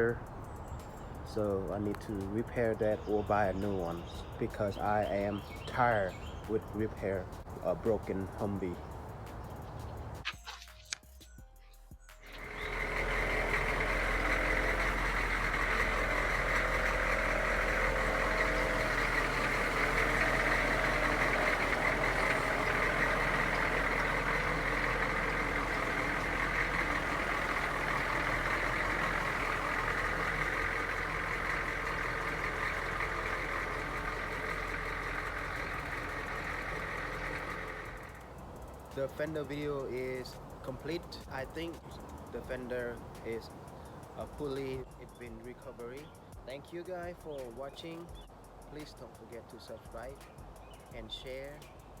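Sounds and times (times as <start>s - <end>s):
diesel engine idling: 0.0s - 10.2s, 12.2s - 48.6s.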